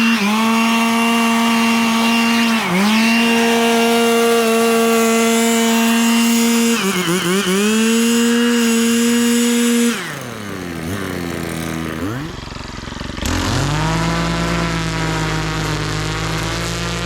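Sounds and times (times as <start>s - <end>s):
handheld power tool engine revving: 0.0s - 17.0s.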